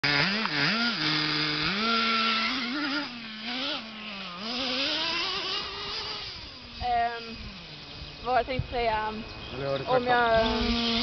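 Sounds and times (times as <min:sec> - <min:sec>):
radio-controlled car motor whining: 0:00.0 - 0:11.0.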